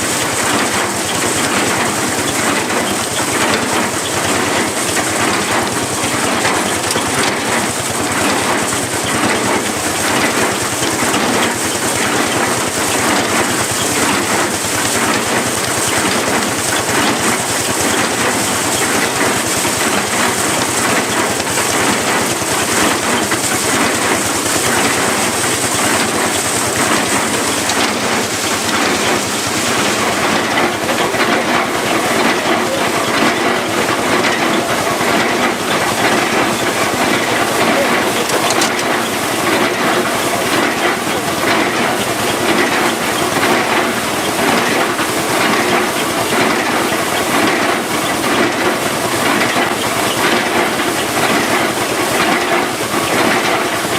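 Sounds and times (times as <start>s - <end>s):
threshing machine clattering: 0.0s - 53.9s.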